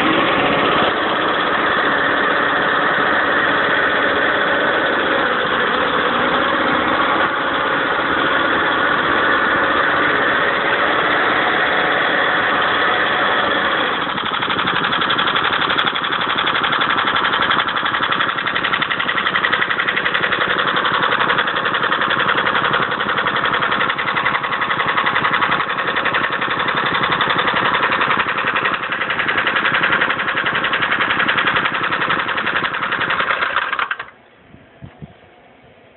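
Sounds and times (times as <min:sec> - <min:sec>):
lawn mower engine running: 0:00.0 - 0:34.3.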